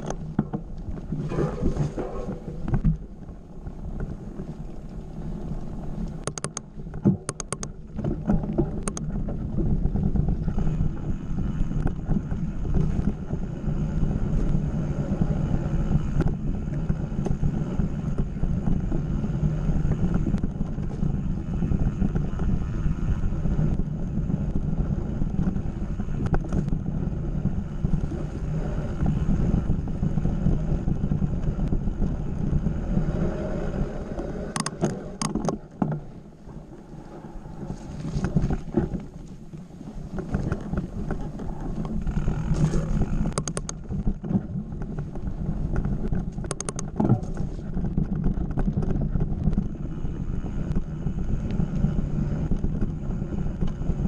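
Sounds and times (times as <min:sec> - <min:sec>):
bike clicks and rattles: 0:00.0 - 0:04.1, 0:06.0 - 0:36.6, 0:37.9 - 0:54.0
bike tyres rumbling on dirt: 0:00.0 - 0:54.0
wind buffeting microphone: 0:00.0 - 0:54.0.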